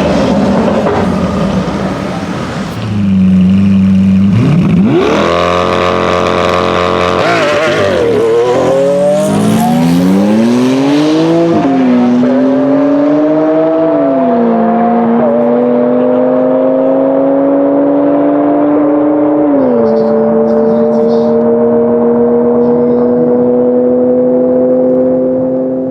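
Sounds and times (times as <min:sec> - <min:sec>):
car engine accelerating: 0:00.0 - 0:25.9.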